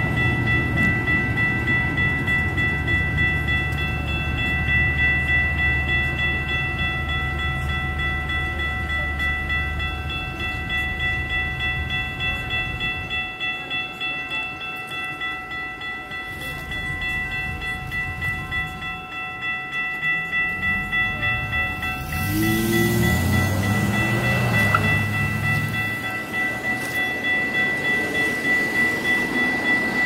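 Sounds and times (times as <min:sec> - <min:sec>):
crossing bells ringing: 0:00.0 - 0:30.0.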